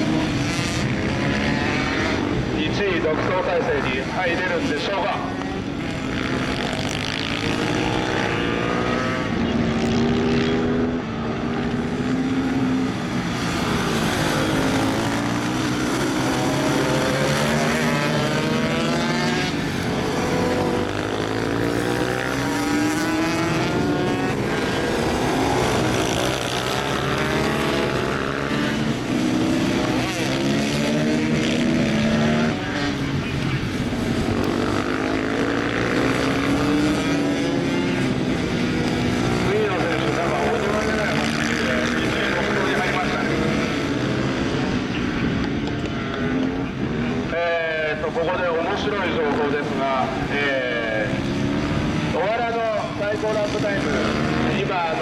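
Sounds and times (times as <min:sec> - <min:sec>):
racing motorcycle engines revving: 0:00.0 - 0:55.0.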